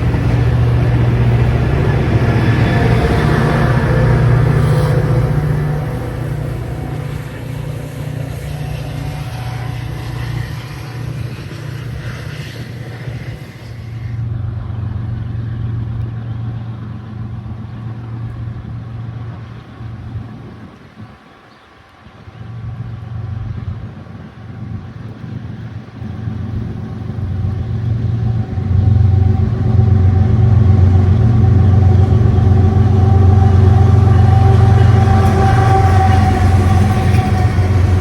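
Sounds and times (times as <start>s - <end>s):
locomotive engine drone: 0.0s - 38.0s.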